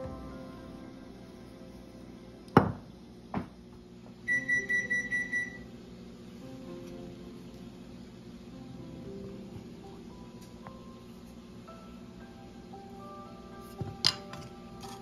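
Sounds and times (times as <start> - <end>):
soft background music: 0.0 - 3.3, 4.2 - 15.0.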